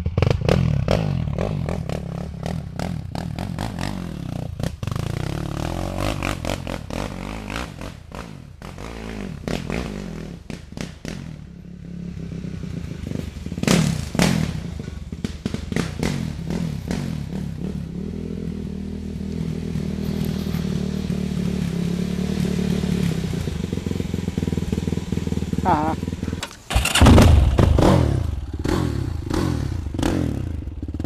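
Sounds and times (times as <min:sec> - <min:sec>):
quad engine running at low revs: 0:00.0 - 0:31.0.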